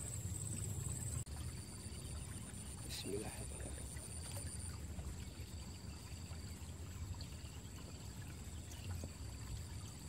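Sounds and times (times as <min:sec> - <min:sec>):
low steady rumble: 0:00.0 - 0:10.0
water trickling in ditch: 0:00.0 - 0:10.0.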